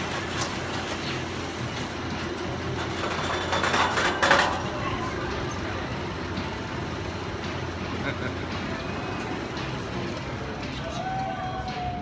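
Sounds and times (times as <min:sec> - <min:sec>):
roller coaster train rattling: 0:00.0 - 0:12.0.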